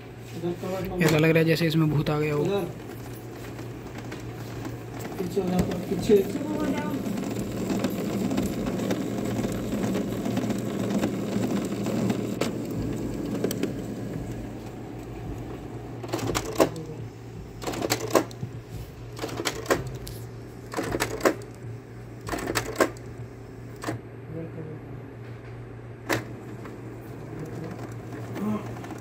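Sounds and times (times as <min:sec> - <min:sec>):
printer motor whirring: 0:00.0 - 0:24.1, 0:25.9 - 0:29.0
printer mechanism clattering: 0:00.6 - 0:24.0, 0:26.0 - 0:29.0.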